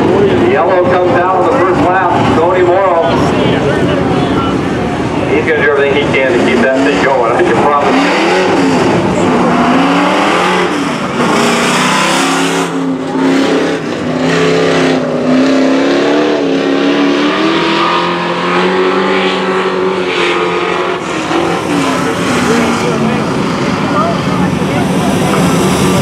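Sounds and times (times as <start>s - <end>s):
race truck engines revving: 0.0s - 26.0s.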